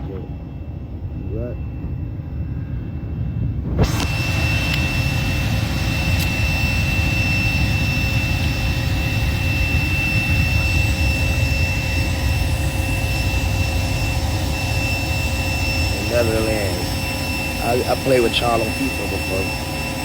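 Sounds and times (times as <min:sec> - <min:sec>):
jet engine idling: 0:00.0 - 0:20.0.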